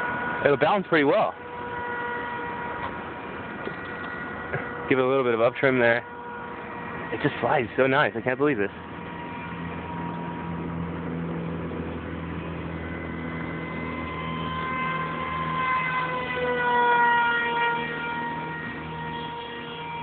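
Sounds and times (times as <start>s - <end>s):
model jet motor whining: 0.0s - 20.0s.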